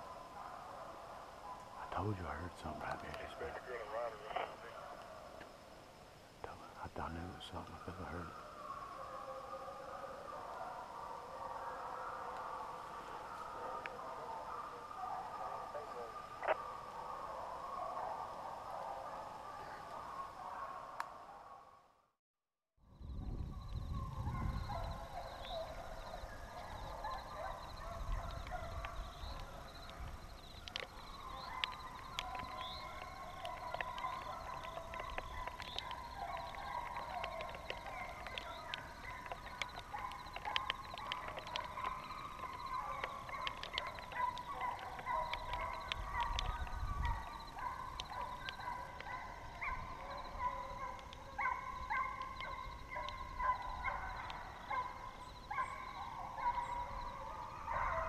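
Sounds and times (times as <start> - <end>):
hounds baying: 0.0 - 5.7, 6.4 - 21.8, 23.9 - 58.0.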